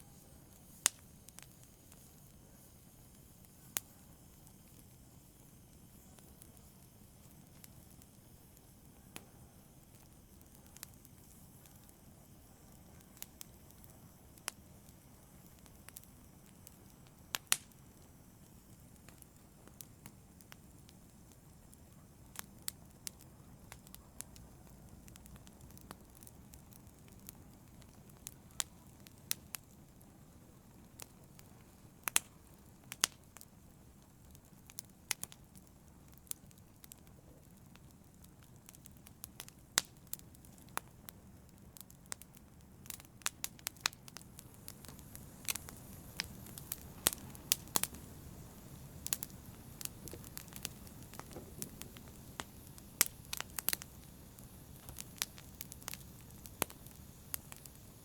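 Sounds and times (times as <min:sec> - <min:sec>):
low hiss of burning fire: 0:00.0 - 0:58.0
wood fire crackling and popping: 0:00.0 - 0:58.0.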